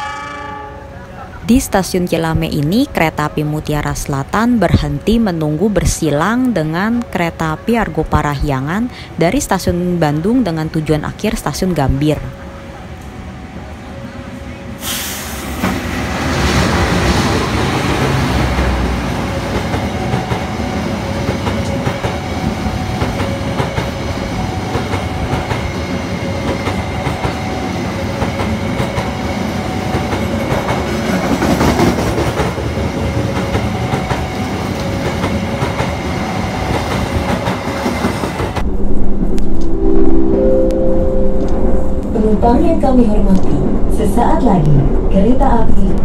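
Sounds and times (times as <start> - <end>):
diesel locomotive passing: 0.0 - 46.0.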